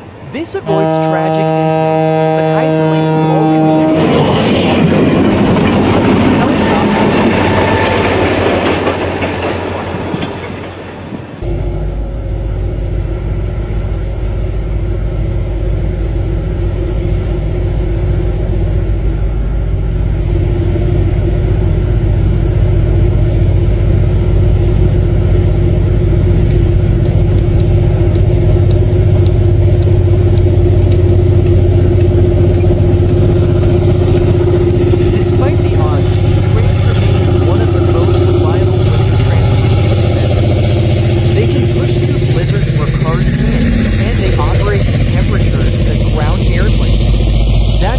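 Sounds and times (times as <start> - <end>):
large engine droning rumble: 0.0 - 47.9.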